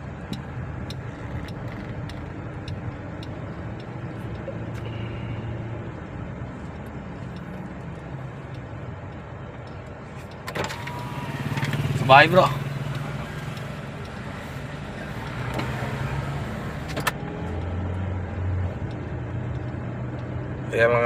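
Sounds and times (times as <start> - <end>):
car engine misfiring: 0.0 - 17.8.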